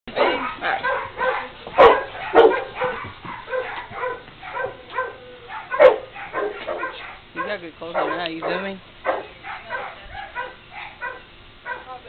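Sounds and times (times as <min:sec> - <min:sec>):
dog barking: 0:00.1 - 0:12.0.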